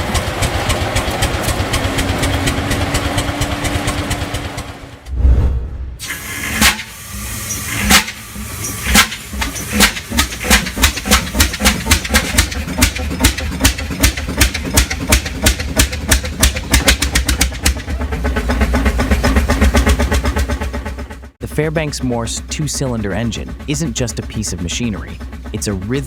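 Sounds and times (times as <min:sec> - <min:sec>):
diesel engine starting up: 0:00.0 - 0:05.1, 0:06.0 - 0:26.0.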